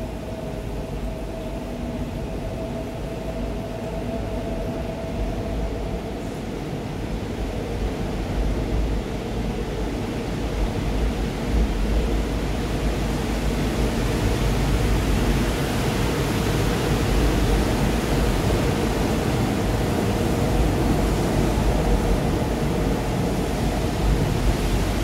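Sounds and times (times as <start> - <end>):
subway train rumbling past: 0.0 - 25.0.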